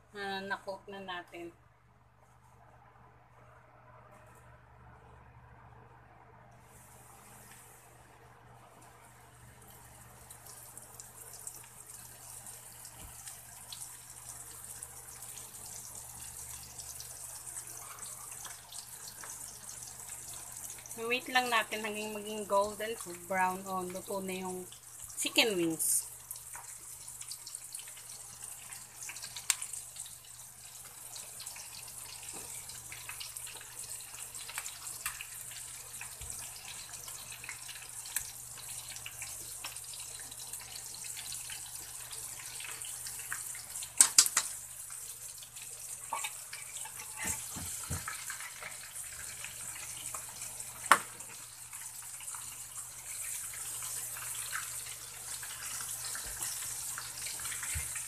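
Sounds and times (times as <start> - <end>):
deep-frying sizzle: 6.6 - 58.0.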